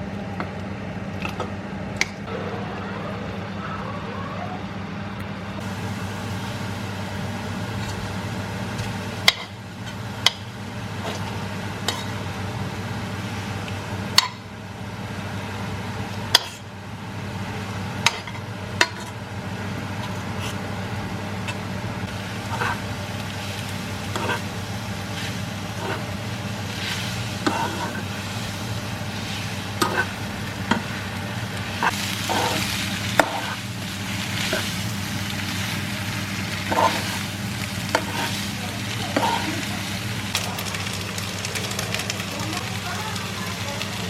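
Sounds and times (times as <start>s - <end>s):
food sizzling in a pan: 5.6s - 44.0s.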